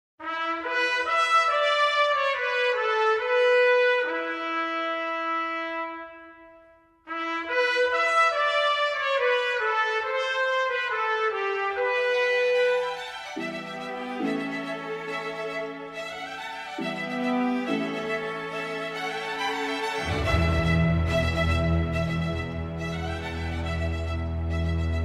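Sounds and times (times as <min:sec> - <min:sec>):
brass fanfare led by trumpet: 0:00.2 - 0:25.0.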